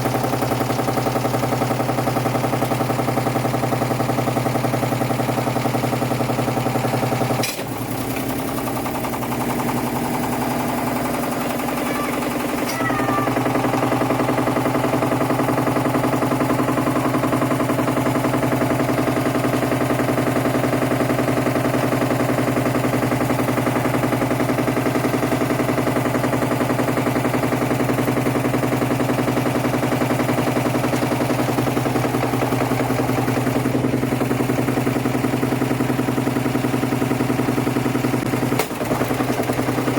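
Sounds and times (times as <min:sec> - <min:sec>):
washing machine motor humming: 0:00.0 - 0:39.9.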